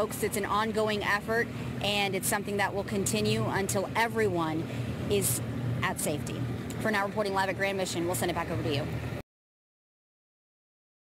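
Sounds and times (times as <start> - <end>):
woman speaking: 0.0 - 8.9.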